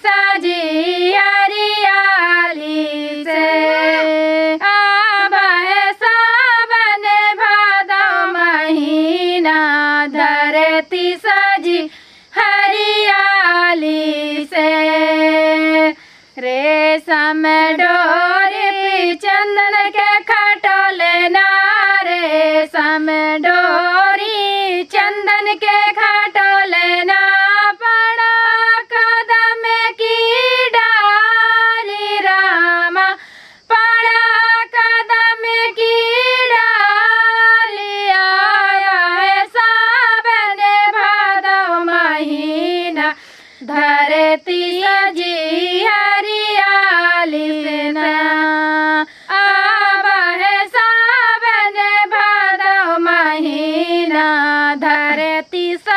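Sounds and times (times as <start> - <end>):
women singing folk song: 0.0 - 55.9.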